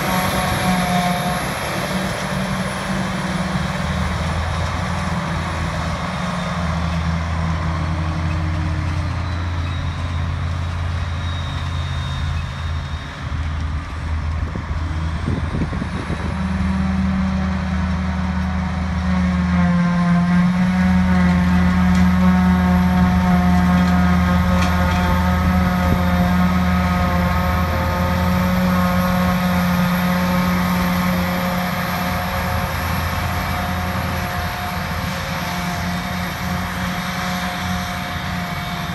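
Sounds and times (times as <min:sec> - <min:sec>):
diesel engine drone: 0:00.0 - 0:38.9
whining machine tone: 0:00.0 - 0:38.9.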